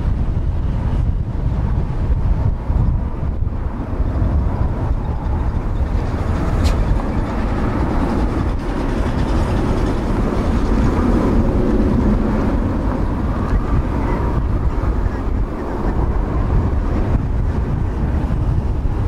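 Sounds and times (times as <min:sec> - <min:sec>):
jet engines low rumble: 0:00.0 - 0:19.0
wind buffeting microphone: 0:00.0 - 0:19.0.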